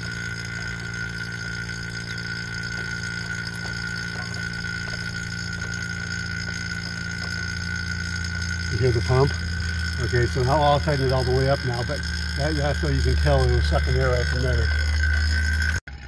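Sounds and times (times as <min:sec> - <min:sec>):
vacuum pump humming: 0:00.0 - 0:16.0.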